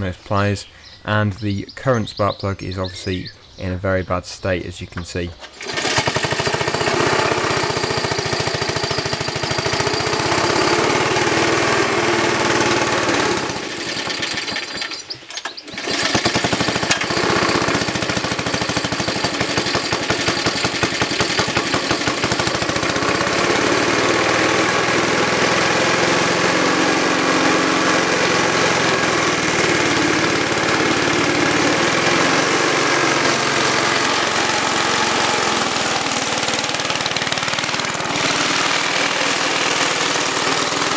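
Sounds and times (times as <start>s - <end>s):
petrol mower engine running rough: 5.4s - 40.9s.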